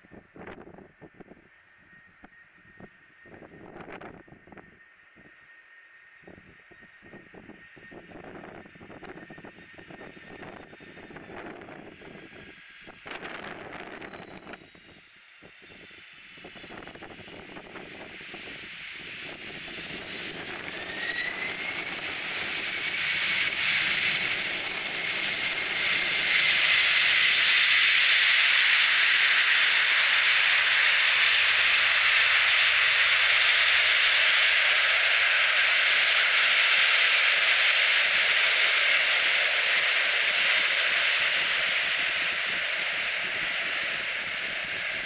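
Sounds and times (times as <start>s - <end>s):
jet engines in reverse thrust: 0.0s - 45.0s.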